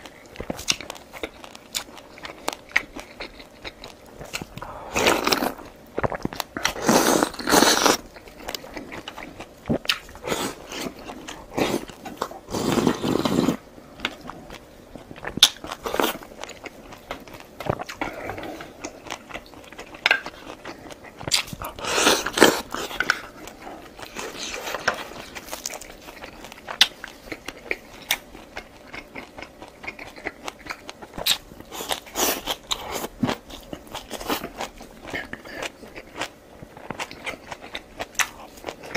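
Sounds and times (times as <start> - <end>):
crunching and chewing food: 0.0 - 38.9.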